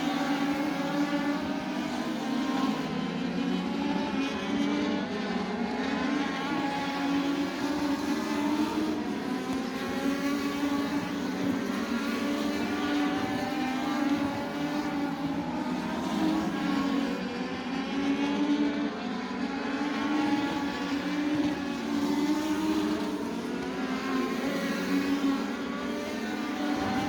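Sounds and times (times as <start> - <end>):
race car engines accelerating: 0.0 - 27.0.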